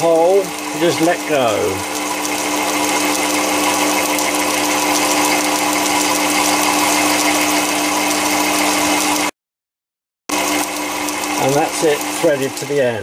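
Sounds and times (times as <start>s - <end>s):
metal lathe humming and whining: 0.0s - 9.3s, 10.3s - 13.0s.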